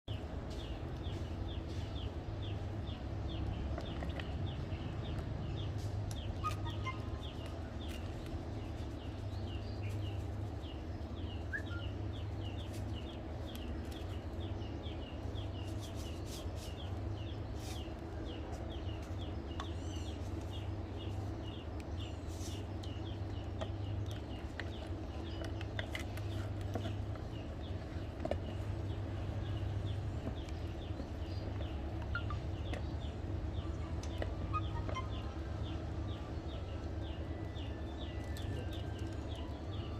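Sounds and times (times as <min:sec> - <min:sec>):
steady low hum: 0:00.1 - 0:39.9.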